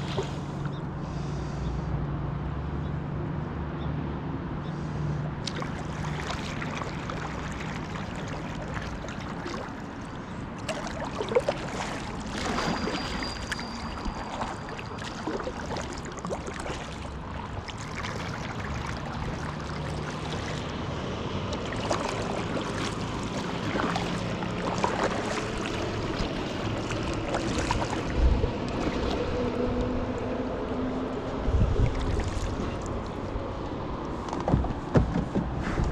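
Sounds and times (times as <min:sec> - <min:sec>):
paddle splashing water: 0:00.0 - 0:00.8, 0:05.4 - 0:20.8, 0:21.4 - 0:30.2, 0:31.5 - 0:35.9.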